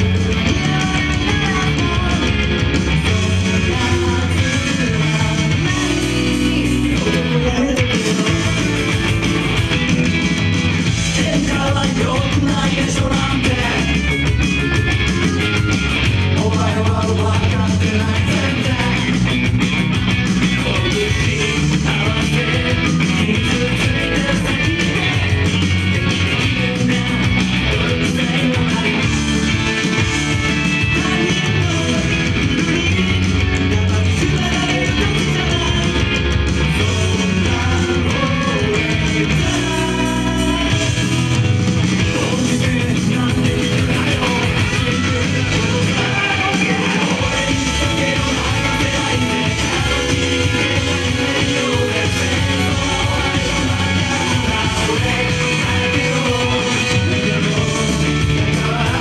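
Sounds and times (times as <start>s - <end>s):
men singing live rock song: 0.0s - 59.0s
rock band playing: 0.0s - 59.0s.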